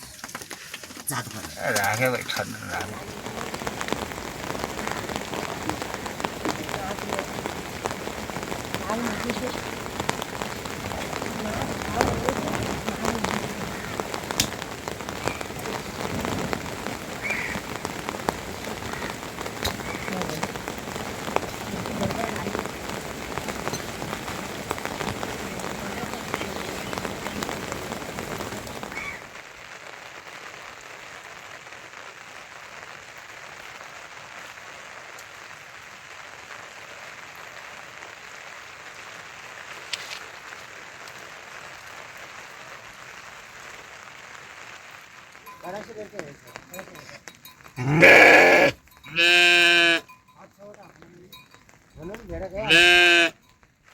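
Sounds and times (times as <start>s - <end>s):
rain hiss: 0.0s - 53.9s
raindrops striking a surface: 0.0s - 53.9s.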